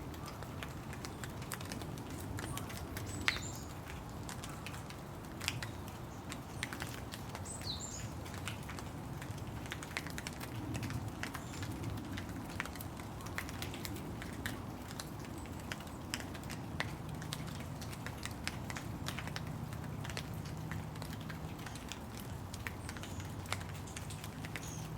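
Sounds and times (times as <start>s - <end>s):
rain falling: 0.0s - 24.9s.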